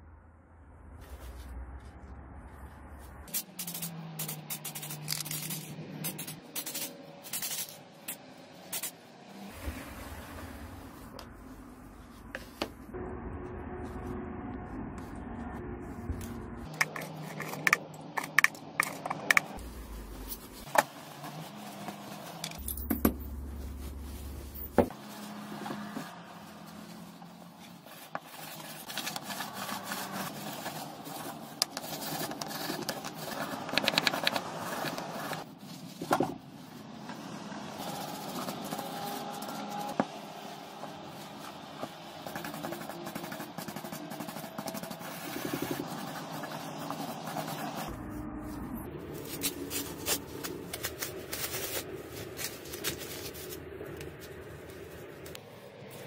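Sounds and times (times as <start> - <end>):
rag rustling and rubbing: 2.9 - 12.7, 16.6 - 48.0, 49.0 - 56.0.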